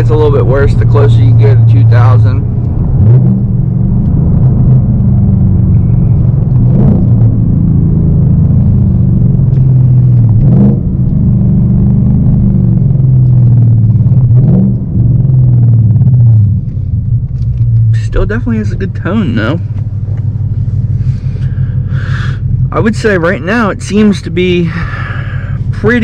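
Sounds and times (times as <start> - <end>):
car exhaust droning: 0.0 - 26.0.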